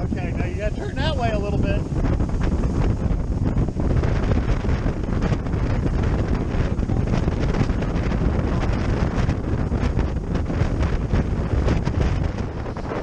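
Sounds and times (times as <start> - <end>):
boat engine: 0.0 - 13.0
water noise: 0.0 - 13.0
wind buffeting microphone: 0.0 - 13.0.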